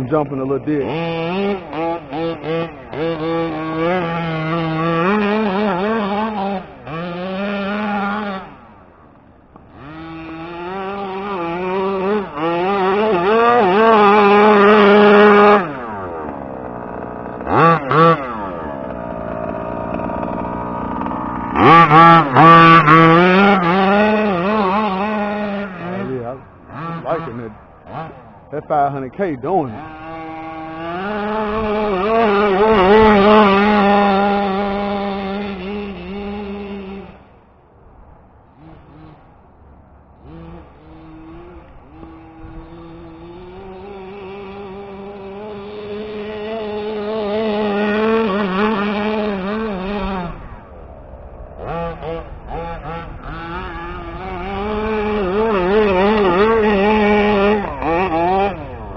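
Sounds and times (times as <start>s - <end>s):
two-stroke engine revving: 0.0s - 58.9s.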